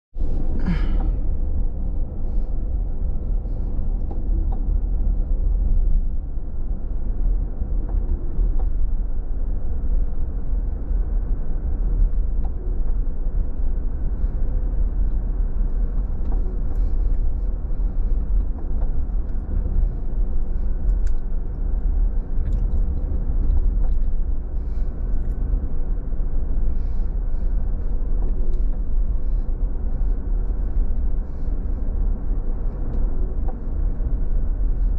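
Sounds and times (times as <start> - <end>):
car engine and tyre rumble: 0.1 - 34.9.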